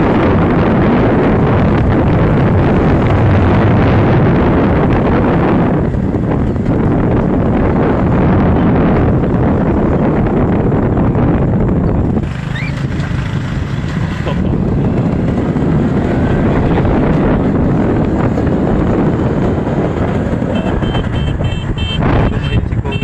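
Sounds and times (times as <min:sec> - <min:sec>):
road vehicle rumble: 0:00.0 - 0:23.0
wind buffeting microphone: 0:00.0 - 0:23.0.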